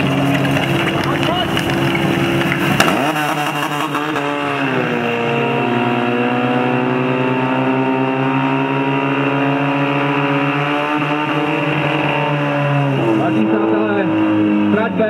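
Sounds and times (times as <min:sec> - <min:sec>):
petrol pump engine at high revs: 0:00.0 - 0:15.0.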